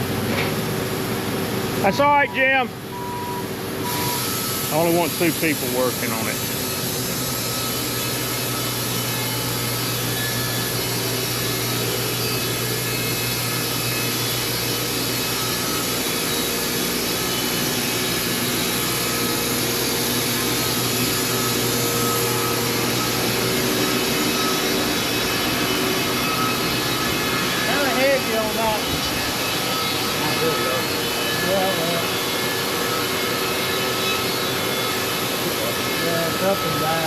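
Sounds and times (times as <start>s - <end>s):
band sawmill sawing log: 4.2s - 37.0s.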